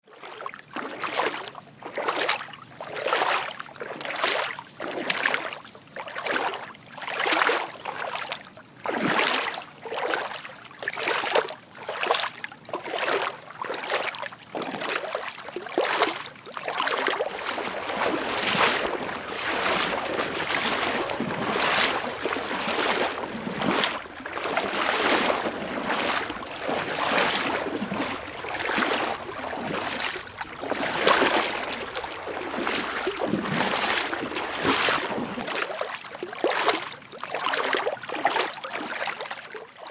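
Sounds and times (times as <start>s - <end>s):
person wading through water: 0.1s - 39.9s.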